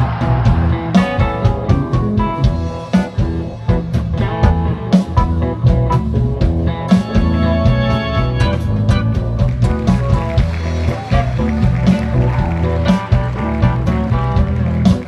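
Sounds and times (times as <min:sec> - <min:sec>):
drum kit beat: 0:00.0 - 0:15.0
electric bass: 0:00.0 - 0:15.0
electric guitar: 0:00.0 - 0:15.0.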